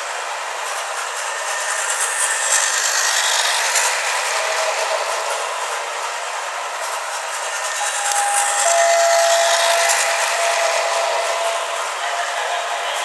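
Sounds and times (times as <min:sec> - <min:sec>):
toy train motor whirring: 0:00.0 - 0:13.0
toy train wheels rattling: 0:00.6 - 0:13.0.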